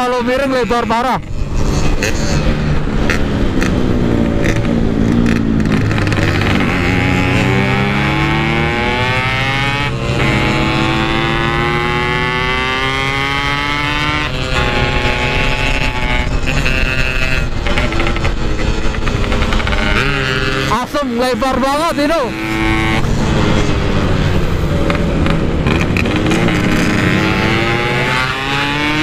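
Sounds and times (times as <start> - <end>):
two-stroke engine accelerating: 0.0 - 29.0.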